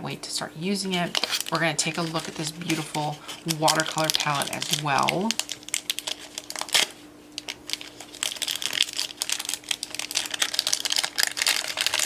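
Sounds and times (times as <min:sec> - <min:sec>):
packaging crinkling: 0:00.8 - 0:12.0.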